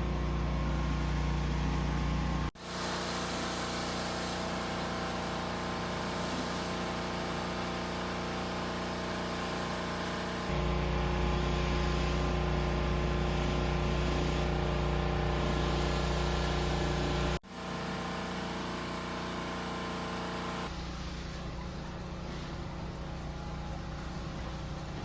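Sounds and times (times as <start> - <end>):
mechanical hum with low drone: 0.0 - 25.0.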